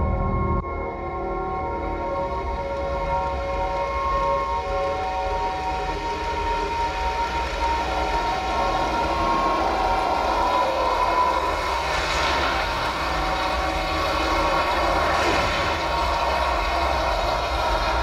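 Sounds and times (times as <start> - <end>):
low rumble: 0.0 - 2.9, 6.0 - 18.0.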